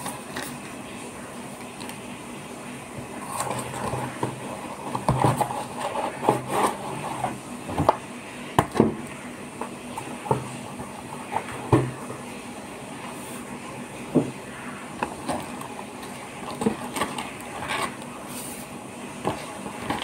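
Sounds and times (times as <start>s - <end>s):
cardboard rustling and scraping: 3.0s - 14.4s, 15.0s - 20.0s.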